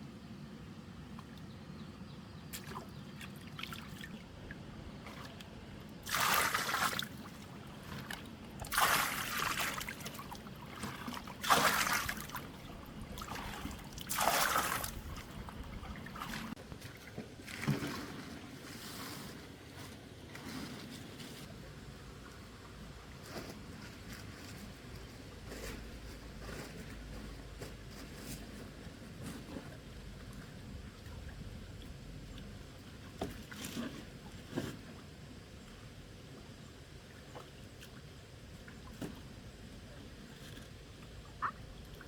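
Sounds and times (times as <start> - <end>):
water splashing and sloshing: 2.5 - 42.0.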